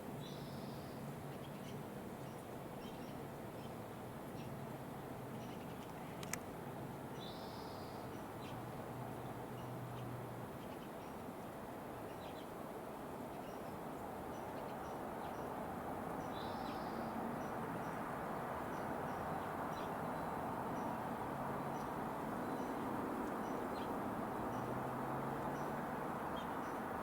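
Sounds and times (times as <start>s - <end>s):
low background noise: 0.0s - 27.0s
songbirds chipping: 0.1s - 6.5s, 7.1s - 27.0s.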